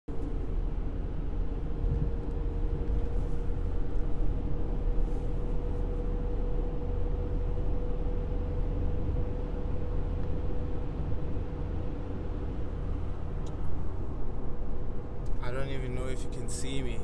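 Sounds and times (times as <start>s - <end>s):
car engine: 0.1s - 17.0s.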